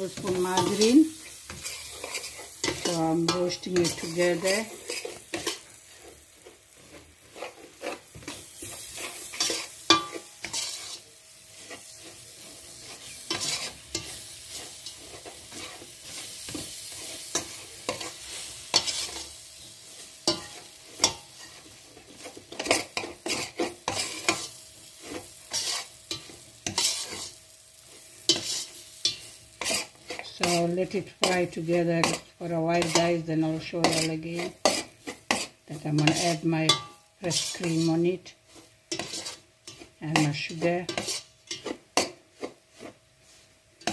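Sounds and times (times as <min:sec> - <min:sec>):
hot fat sizzling: 0:00.0 - 0:43.9
spoon scraping a metal pot: 0:00.2 - 0:11.0, 0:11.6 - 0:19.3, 0:20.2 - 0:27.4, 0:28.3 - 0:38.0, 0:38.6 - 0:43.0.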